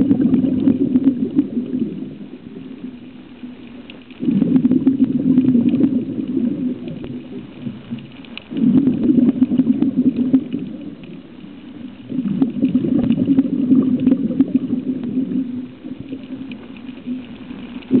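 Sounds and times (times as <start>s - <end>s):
exhaled breath bubbling underwater: 0.0s - 3.6s, 4.2s - 17.3s.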